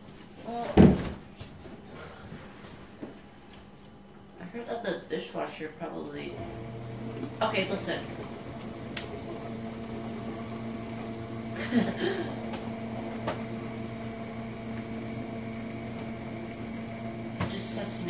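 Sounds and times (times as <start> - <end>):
dishwasher motor hum: 0.0 - 18.0.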